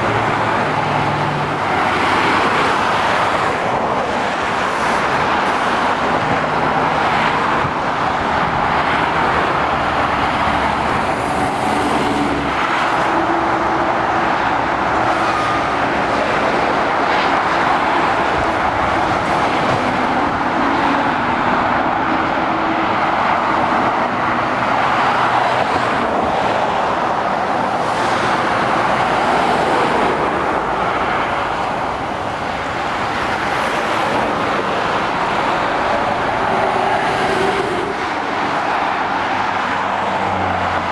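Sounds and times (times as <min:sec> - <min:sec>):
tyre roar of traffic: 0:00.0 - 0:40.9.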